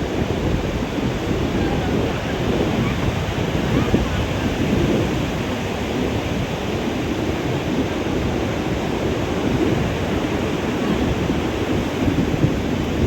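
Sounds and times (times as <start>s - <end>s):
ocean surf on sandy beach: 0.0s - 13.0s
wind rumbling on microphone: 0.0s - 13.0s.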